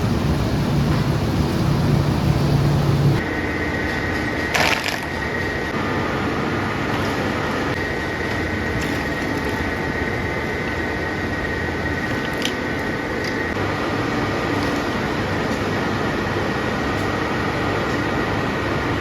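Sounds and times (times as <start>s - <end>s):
factory machinery droning: 0.0s - 19.0s
machinery high whine: 0.0s - 19.0s.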